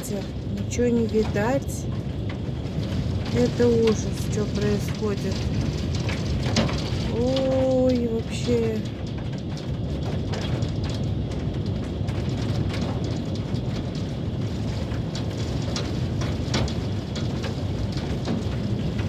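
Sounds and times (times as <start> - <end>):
hailstones striking surfaces: 0.0 - 19.0
wind and downpour rumble: 0.0 - 19.0.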